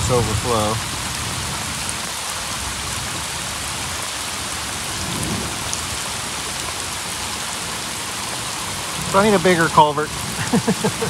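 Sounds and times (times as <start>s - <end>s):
heavy rain pouring: 0.0s - 11.0s
raindrops striking microphone: 0.0s - 11.0s
water rushing across gravel: 0.0s - 11.0s.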